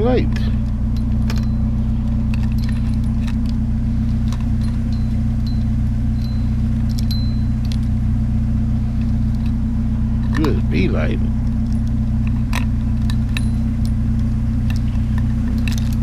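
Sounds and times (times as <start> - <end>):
light clinks and ticks: 0.0 - 16.0
vehicle engine idling: 0.0 - 16.0.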